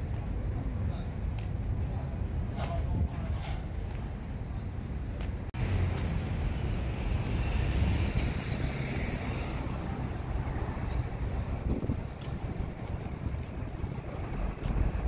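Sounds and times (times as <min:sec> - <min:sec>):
street traffic: 0:00.0 - 0:15.0
wind buffeting microphone: 0:00.0 - 0:15.0.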